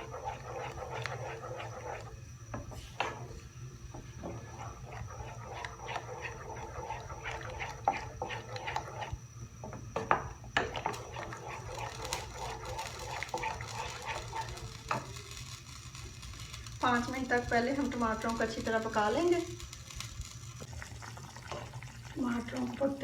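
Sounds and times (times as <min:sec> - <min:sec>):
spoon stirring and scraping pan: 0:00.0 - 0:20.8, 0:21.4 - 0:23.0.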